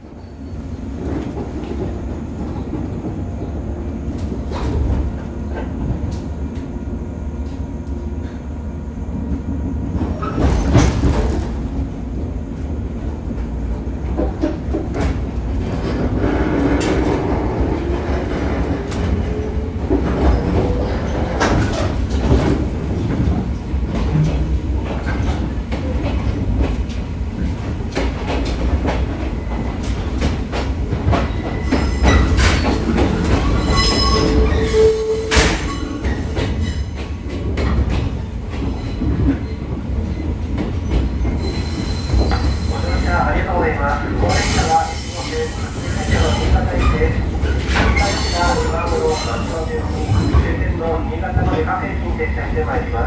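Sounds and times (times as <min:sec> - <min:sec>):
train rumbling on rails: 0:00.0 - 0:53.0.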